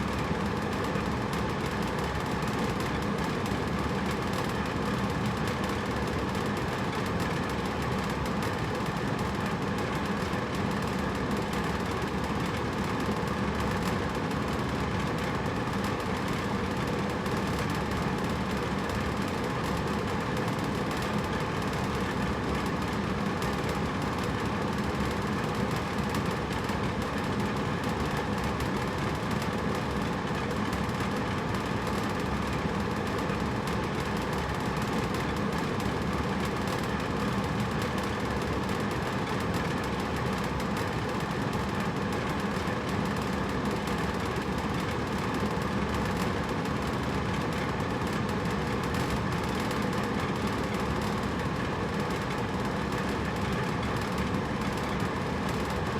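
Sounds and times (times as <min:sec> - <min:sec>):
air conditioner fan whooshing: 0:00.0 - 0:55.9.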